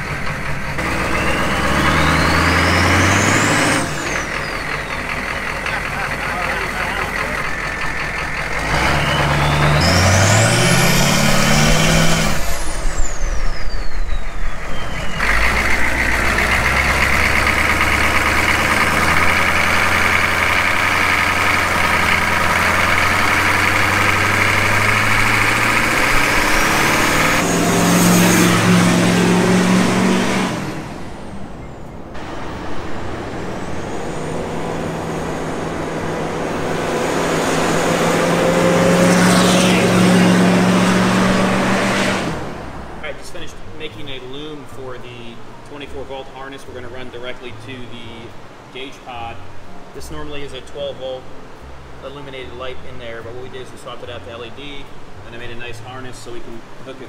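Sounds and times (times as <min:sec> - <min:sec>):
diesel engine accelerating: 0:00.0 - 0:57.0.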